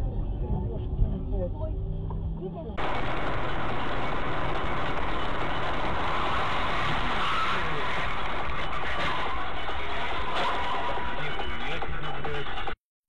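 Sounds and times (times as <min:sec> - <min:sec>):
car road and wind noise: 0:00.0 - 0:12.6.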